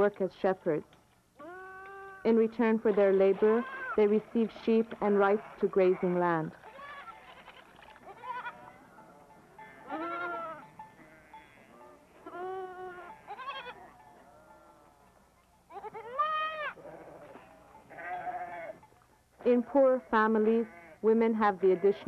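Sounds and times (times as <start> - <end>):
sheep and goats bleating: 1.4 - 4.1, 4.7 - 15.1, 15.7 - 19.0, 19.7 - 22.0.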